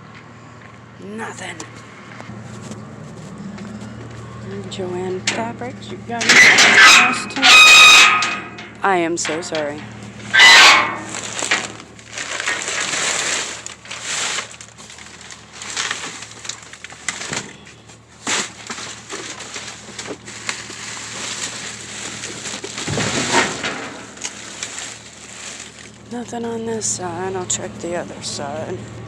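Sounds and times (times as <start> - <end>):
trash bags rustling: 2.4 - 26.9.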